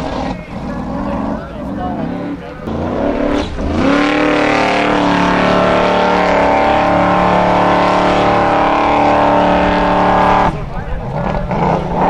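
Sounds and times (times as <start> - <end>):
buggy engine at high revs: 0.0 - 12.0.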